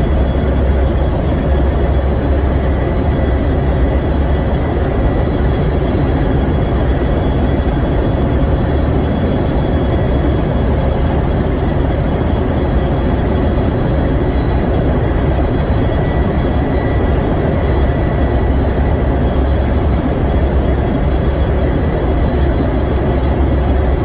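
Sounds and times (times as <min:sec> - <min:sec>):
faint steady whines: 0:00.0 - 0:24.0
generator engine drone: 0:00.0 - 0:24.0.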